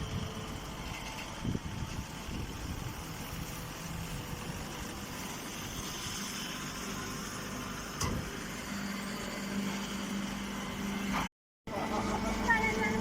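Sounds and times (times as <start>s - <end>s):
baler machine running: 0.0s - 13.0s.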